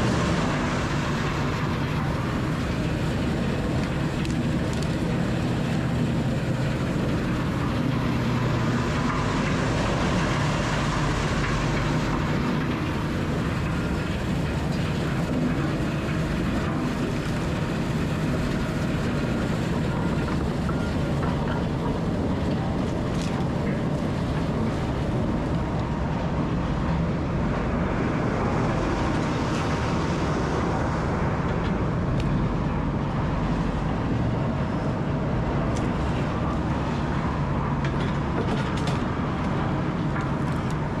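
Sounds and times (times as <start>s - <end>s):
wood grinder diesel drone: 0.0s - 41.0s.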